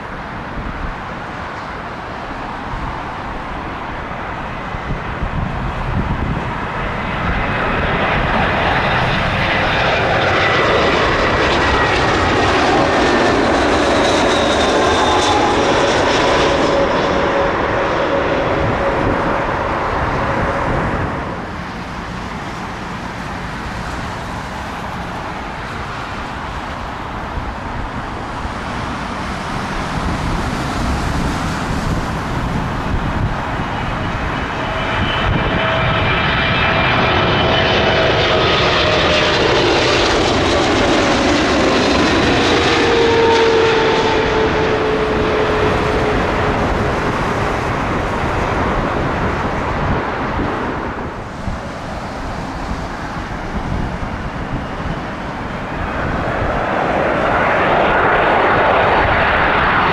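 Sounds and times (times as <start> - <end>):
jet airliner engines passing overhead: 0.0 - 59.9.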